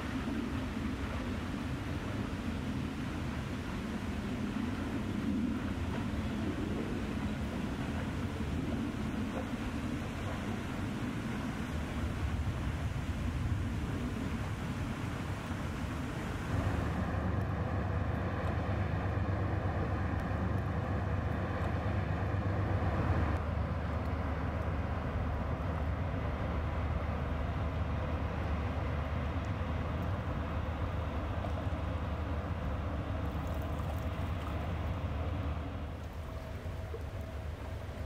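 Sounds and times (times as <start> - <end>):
ship diesel engine droning: 0.0 - 33.4.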